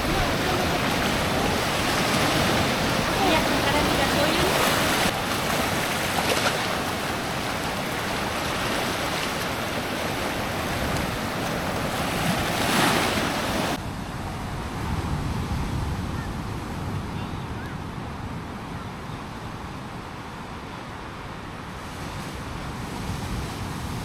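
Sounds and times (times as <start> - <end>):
surf breaking on a beach: 0.0 - 24.0
wind on the microphone: 0.0 - 24.0.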